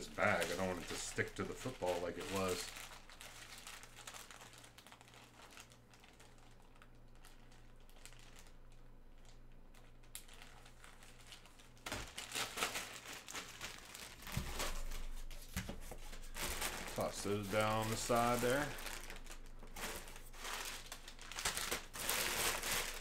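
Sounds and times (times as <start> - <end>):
plastic bag crinkling: 0.0 - 23.0.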